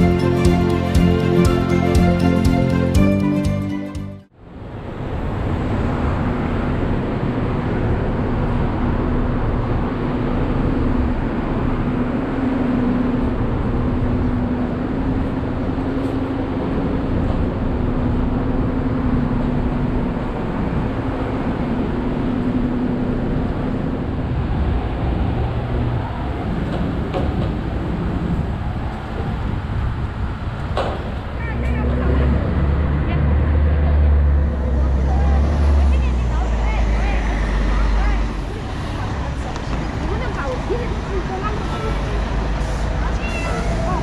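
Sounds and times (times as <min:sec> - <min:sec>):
bus engine hum: 0:00.0 - 0:44.0
street traffic: 0:00.0 - 0:44.0.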